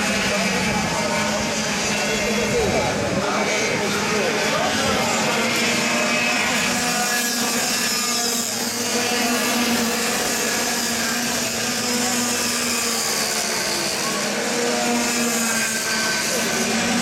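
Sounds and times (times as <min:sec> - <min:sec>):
kart engines buzzing: 0:00.0 - 0:17.0.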